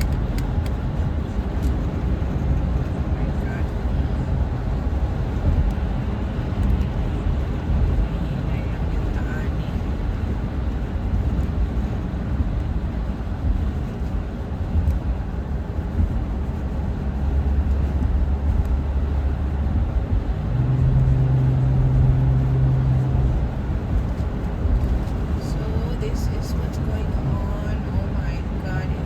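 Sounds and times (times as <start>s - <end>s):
steady low hum: 0.0s - 29.0s
strong wind buffeting microphone: 0.0s - 29.0s.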